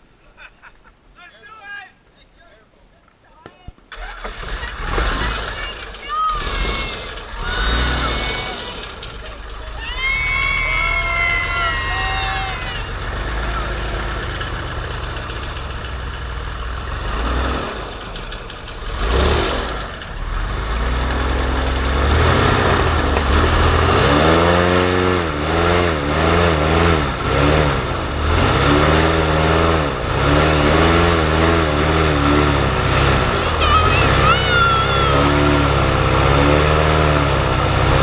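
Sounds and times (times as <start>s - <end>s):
airboat engine revving: 3.9s - 38.0s
airboat engines running: 4.2s - 38.0s.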